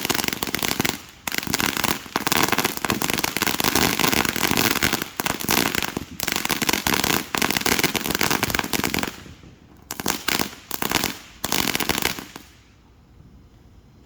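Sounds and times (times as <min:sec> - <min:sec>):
fireworks crackling: 0:00.0 - 0:12.9.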